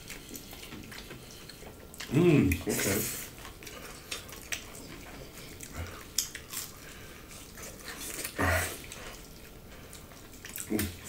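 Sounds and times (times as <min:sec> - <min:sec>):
wet chewing and mouth smacks: 0:00.0 - 0:11.0.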